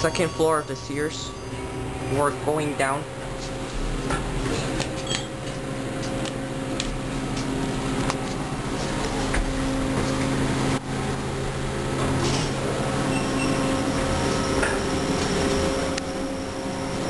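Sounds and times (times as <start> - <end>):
elevator electric hum: 0.0 - 17.0.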